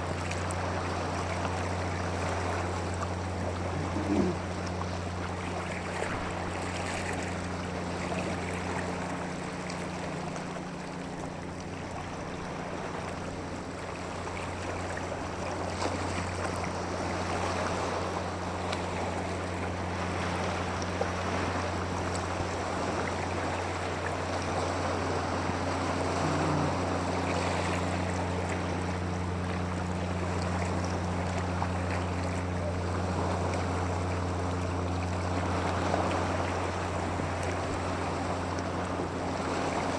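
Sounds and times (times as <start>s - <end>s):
constant low hum: 0.0s - 39.9s
water rushing: 0.0s - 39.9s.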